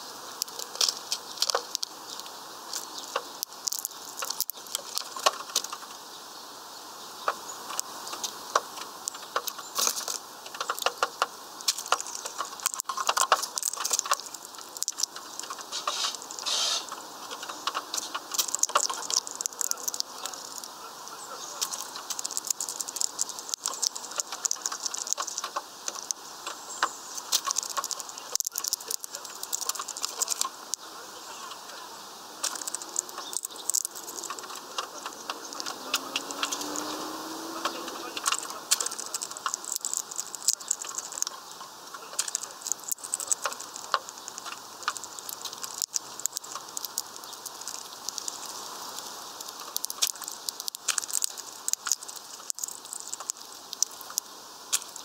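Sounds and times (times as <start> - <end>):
seed husks rattling: 0.0 - 6.1, 7.2 - 55.0
finches cracking seeds: 0.2 - 6.2, 7.0 - 55.0.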